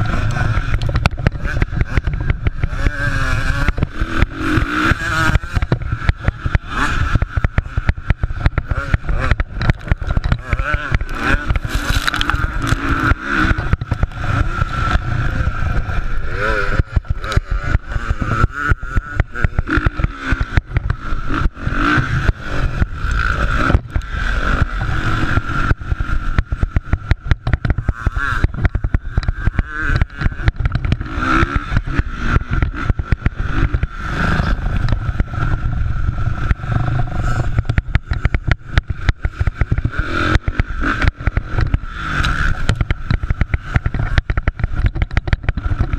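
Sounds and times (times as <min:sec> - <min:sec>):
motocross bike engines revving: 0:00.0 - 0:45.9.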